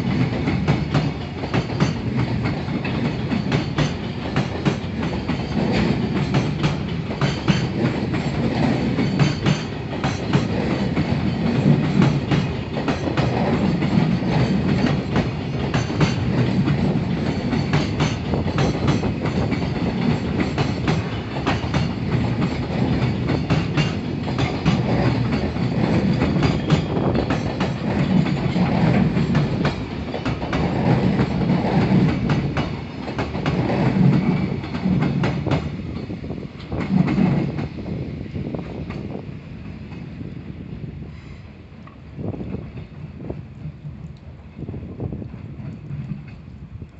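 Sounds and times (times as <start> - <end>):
train wheels clacking on rails: 0.0 - 40.3
train rumble: 0.0 - 46.9.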